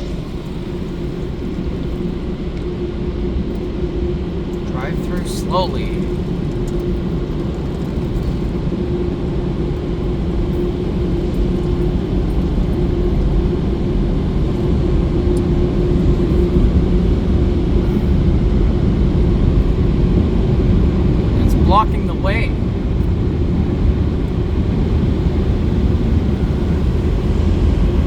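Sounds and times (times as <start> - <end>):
car wash machinery rumble: 0.0 - 28.0
constant hum: 0.0 - 28.0.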